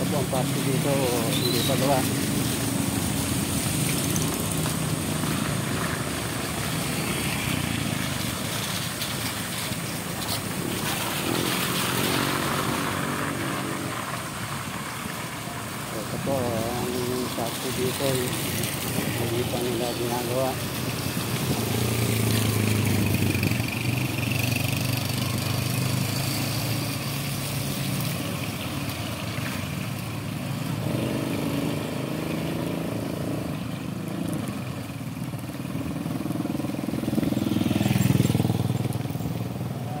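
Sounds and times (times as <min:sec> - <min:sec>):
road and wind noise: 0:00.0 - 0:40.0.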